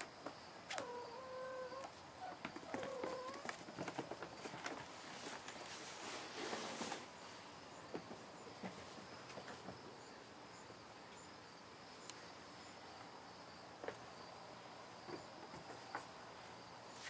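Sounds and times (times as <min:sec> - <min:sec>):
faint insect chirping: 0:00.0 - 0:17.0.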